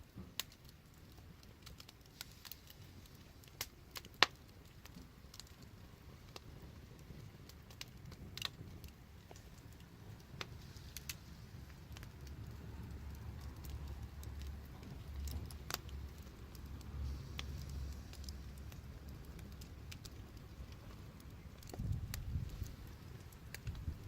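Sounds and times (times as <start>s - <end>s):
fire pops and snaps: 0.0s - 24.0s
low rumble of burning: 0.0s - 24.0s
wood fire crackling: 0.0s - 24.0s.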